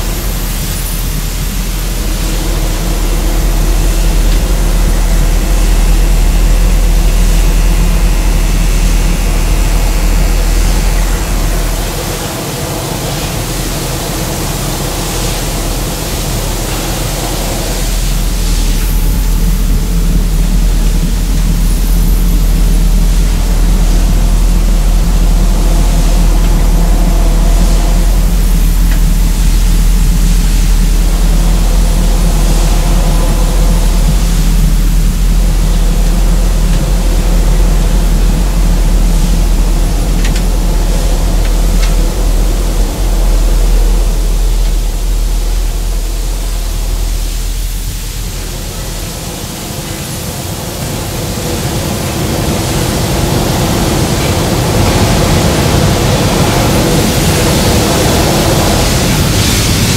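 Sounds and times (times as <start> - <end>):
low rumble with hiss: 0.0 - 59.9.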